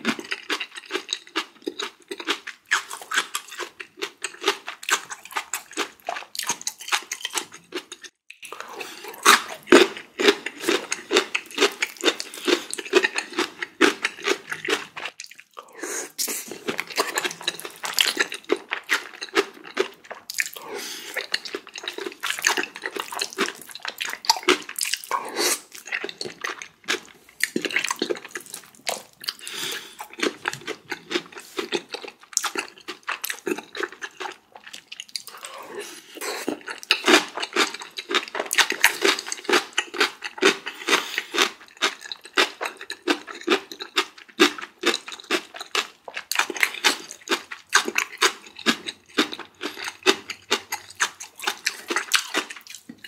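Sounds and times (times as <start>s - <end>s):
wet chewing and smacking: 0.0s - 53.0s.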